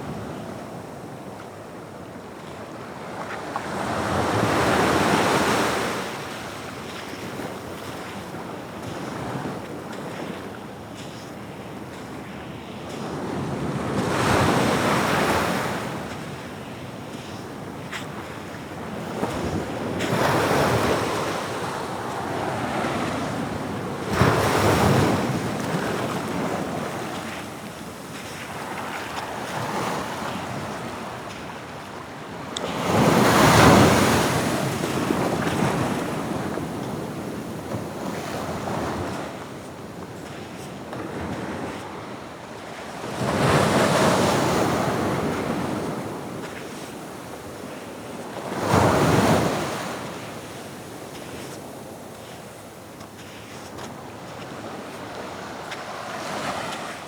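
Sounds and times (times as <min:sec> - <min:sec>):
waves breaking on shore: 0:03.3 - 0:57.0.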